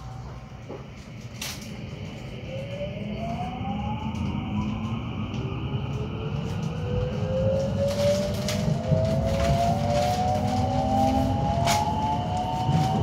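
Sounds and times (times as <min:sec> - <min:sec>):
traction motor whine rising: 0:00.0 - 0:13.0
train rumble: 0:00.0 - 0:13.0.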